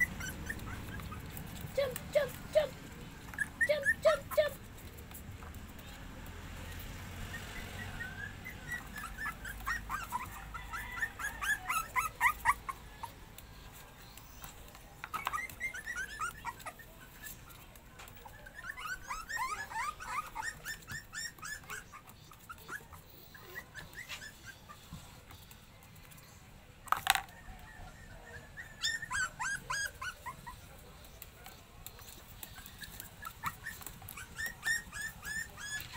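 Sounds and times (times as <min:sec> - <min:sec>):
puppies whimpering: 0:00.0 - 0:04.6, 0:06.6 - 0:25.5, 0:27.7 - 0:31.2, 0:31.8 - 0:35.9.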